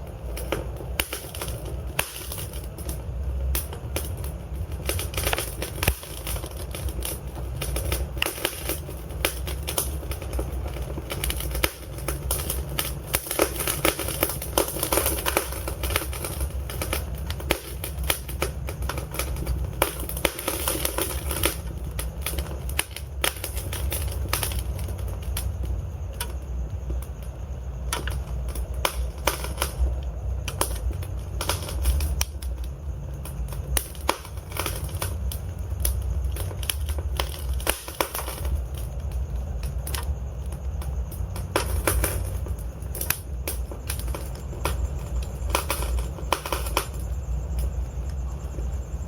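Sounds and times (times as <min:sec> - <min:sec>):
wood fire burning and crackling: 0:00.0 - 0:49.0.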